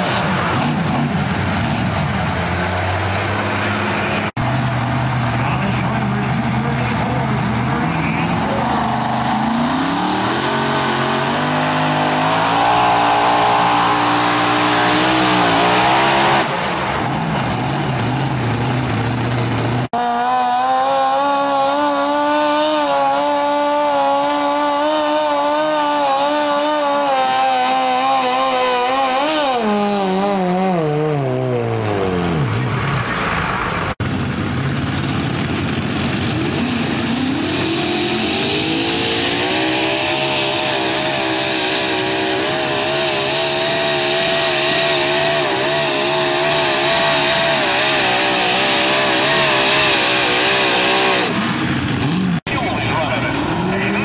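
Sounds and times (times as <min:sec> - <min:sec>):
tractor engines at high revs: 0:00.0 - 0:54.0.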